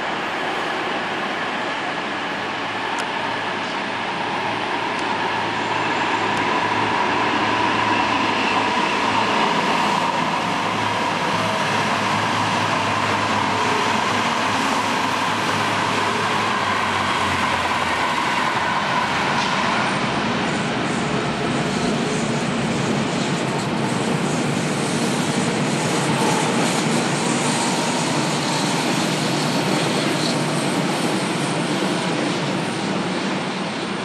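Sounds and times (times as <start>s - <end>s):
trains rolling on tracks: 0.0s - 34.0s.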